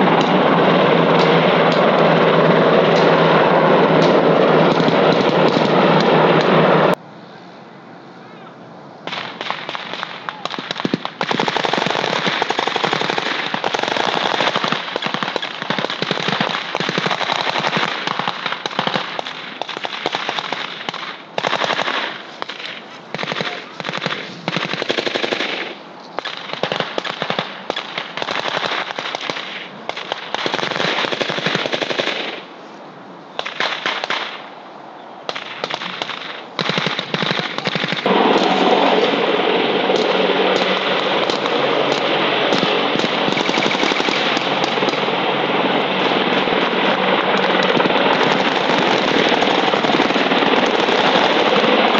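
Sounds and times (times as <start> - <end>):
automatic rifle gunfire: 0.0 - 6.6, 9.1 - 32.5, 33.4 - 34.5, 35.3 - 39.2, 39.9 - 45.3, 46.9 - 51.9
steady dense noise: 0.0 - 51.9.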